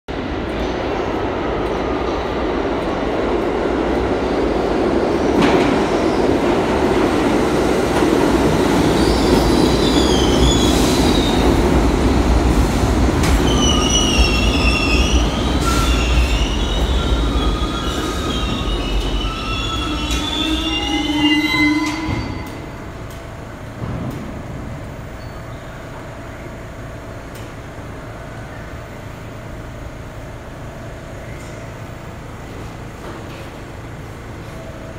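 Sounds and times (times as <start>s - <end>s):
train wheels rumbling on rail: 0.1s - 34.9s.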